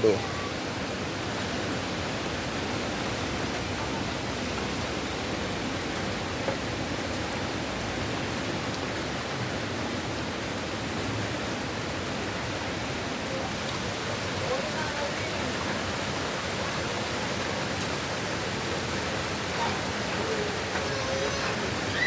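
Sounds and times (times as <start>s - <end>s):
strong wind in trees: 0.0s - 22.0s.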